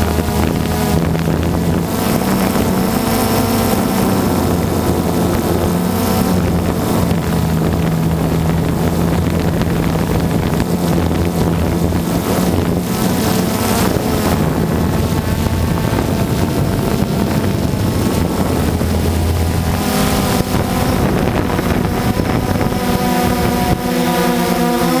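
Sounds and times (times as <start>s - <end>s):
drone propellers buzzing: 0.0s - 25.0s
wind on microphone: 0.0s - 25.0s.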